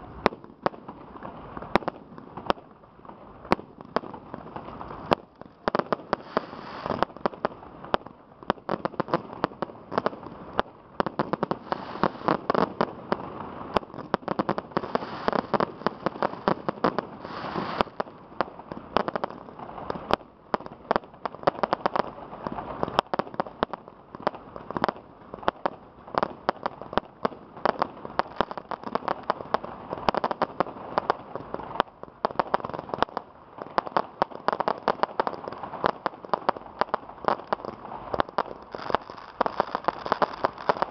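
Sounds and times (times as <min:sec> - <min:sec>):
fireworks bursts and crackling: 0:00.0 - 0:40.9.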